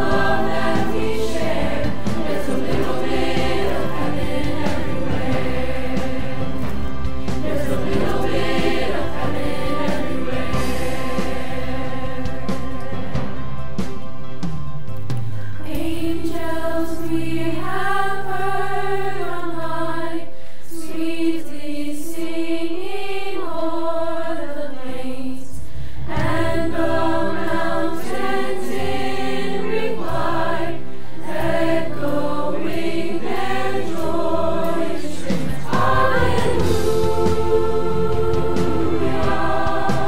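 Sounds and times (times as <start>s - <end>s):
choir singing in harmony: 0.0s - 14.5s, 15.6s - 40.0s.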